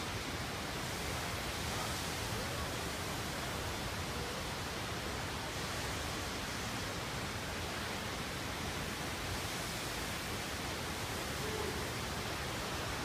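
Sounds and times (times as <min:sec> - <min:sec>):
waterfall rushing: 0:00.1 - 0:13.0.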